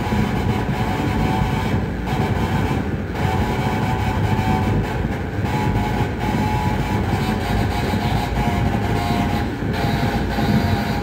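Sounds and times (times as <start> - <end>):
rumbling low synthesizer drone: 0.0 - 11.0.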